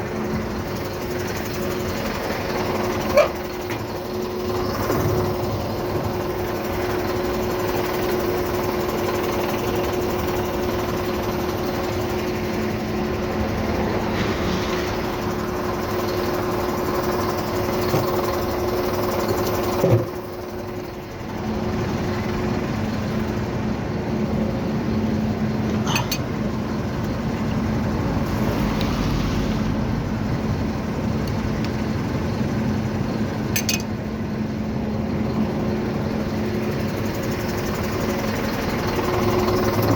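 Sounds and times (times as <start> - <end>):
truck engine whining: 0.0 - 39.9.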